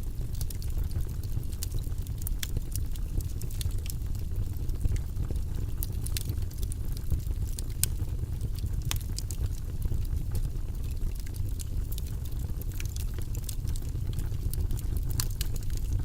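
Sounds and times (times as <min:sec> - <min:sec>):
fire crackling and popping: 0:00.0 - 0:16.0
fire low rumble: 0:00.0 - 0:16.0.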